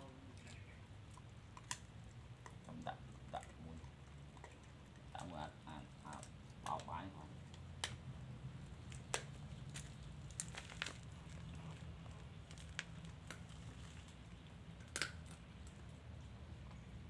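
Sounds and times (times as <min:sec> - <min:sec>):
faint low background hum: 0:00.0 - 0:17.0.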